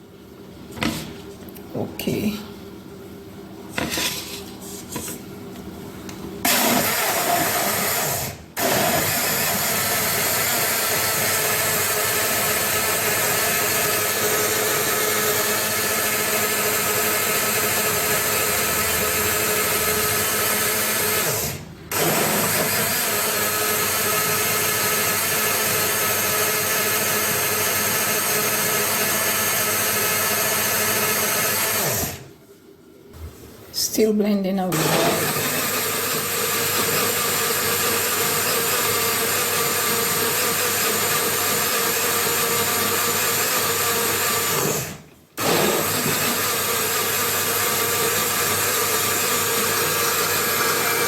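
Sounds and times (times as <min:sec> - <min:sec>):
blender running: 0:06.4 - 0:32.3, 0:34.7 - 0:51.0.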